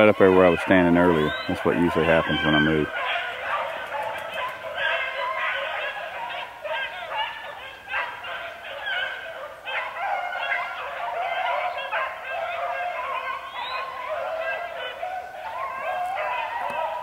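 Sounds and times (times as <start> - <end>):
pack of hounds baying: 0.0 - 17.0.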